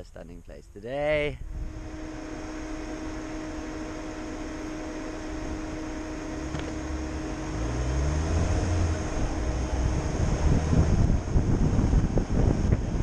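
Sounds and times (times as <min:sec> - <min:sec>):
car engine: 0:01.4 - 0:13.0
road noise: 0:01.4 - 0:13.0.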